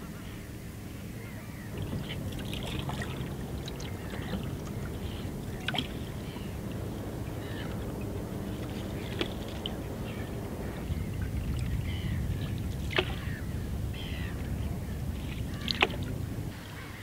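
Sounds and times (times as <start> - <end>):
birds calling: 0.0 - 17.0
paddle in water: 0.0 - 17.0
wind: 0.0 - 17.0
water rushing: 1.5 - 17.0.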